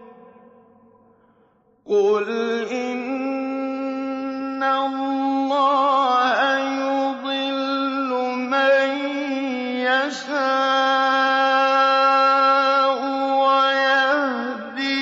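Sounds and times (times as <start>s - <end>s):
man reciting melodically: 0.0s - 0.6s, 1.9s - 15.0s.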